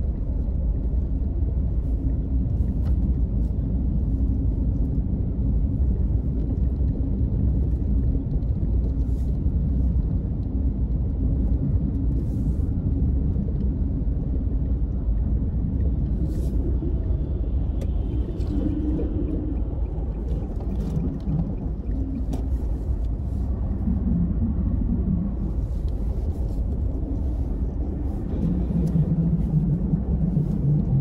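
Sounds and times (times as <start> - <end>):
car engine rumble: 0.0 - 31.0.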